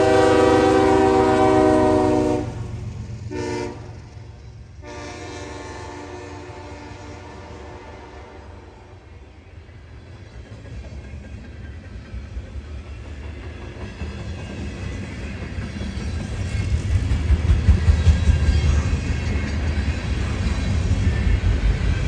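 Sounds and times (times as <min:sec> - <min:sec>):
train cars rattling: 0:00.0 - 0:08.4, 0:09.7 - 0:22.0
freight train rumble: 0:00.0 - 0:22.0.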